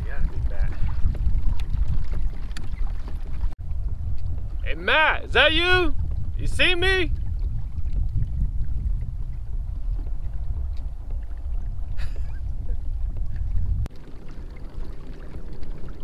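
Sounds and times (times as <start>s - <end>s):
water moving along hull: 0.0s - 4.6s, 5.6s - 16.0s
wind rumble on microphone: 0.0s - 16.0s.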